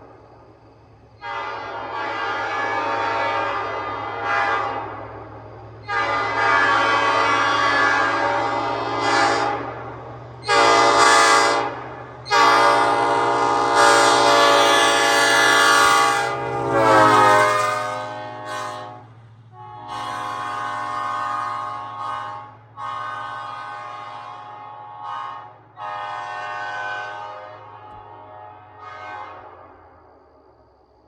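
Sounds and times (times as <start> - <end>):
train horn blasts: 1.2 - 30.3.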